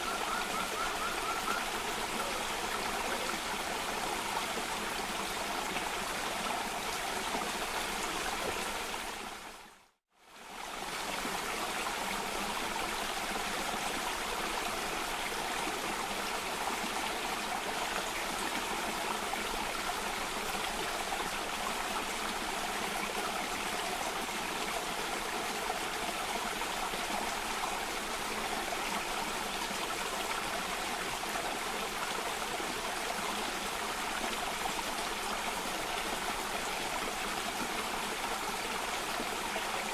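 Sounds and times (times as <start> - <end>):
cascading stream water: 0.0 - 39.9.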